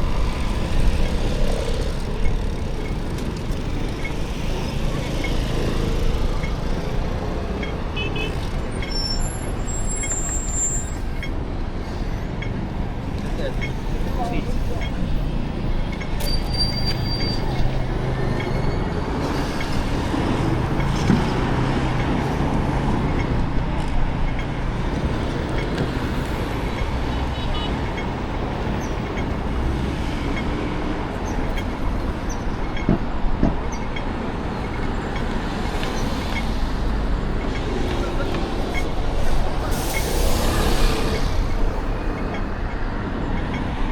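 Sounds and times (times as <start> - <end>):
city street traffic: 0.0 - 43.9.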